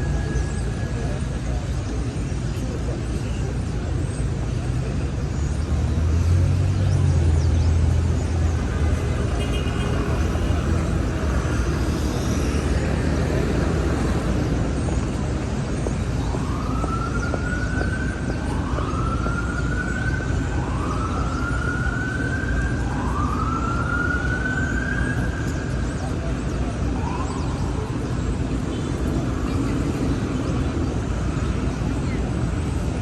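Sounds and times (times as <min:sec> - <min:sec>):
emergency vehicle siren wailing: 0:00.0 - 0:04.2, 0:08.1 - 0:33.0
street traffic: 0:00.0 - 0:33.0.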